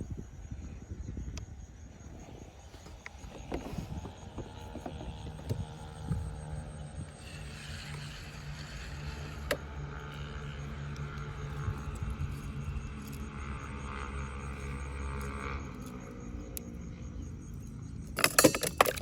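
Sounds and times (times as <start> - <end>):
wind rumble on microphone: 0.0 - 19.0
motor humming: 1.3 - 19.0.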